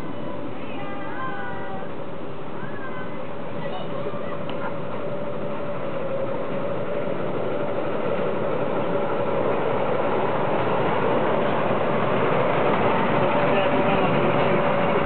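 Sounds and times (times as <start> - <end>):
constant hum: 0.0 - 15.0
miniature locomotive engine running: 0.0 - 15.0.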